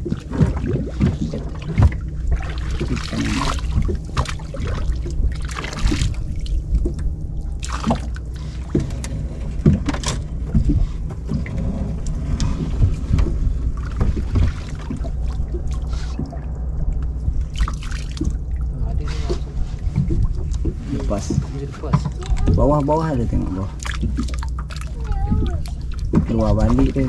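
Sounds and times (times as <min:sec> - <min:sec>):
boat engine running: 0:00.0 - 0:27.0
water splashing: 0:00.0 - 0:27.0.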